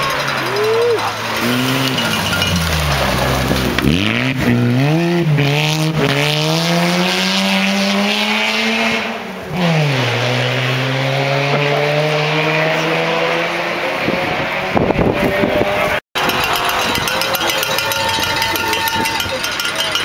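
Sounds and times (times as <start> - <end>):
rally car engine revving: 0.0 - 17.7.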